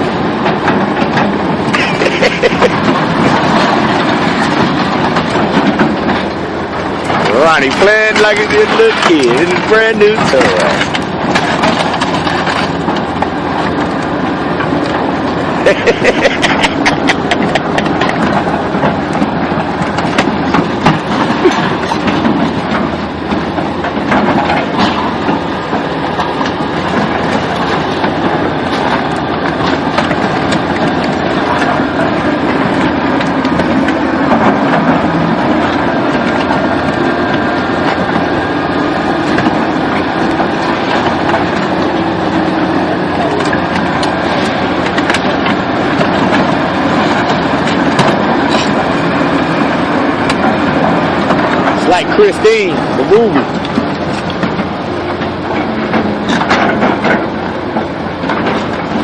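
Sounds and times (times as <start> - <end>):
rapid clicking and clattering: 0.0 - 59.0
vehicle engine running: 0.0 - 59.0.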